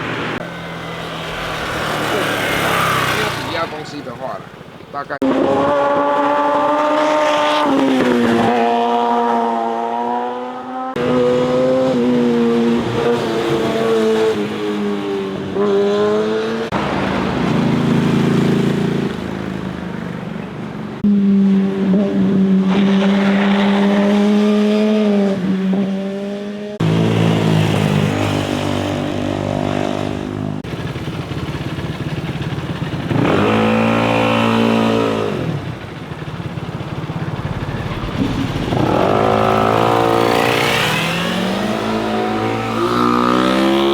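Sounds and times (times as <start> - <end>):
motorcycles passing and revving: 0.0 - 43.9.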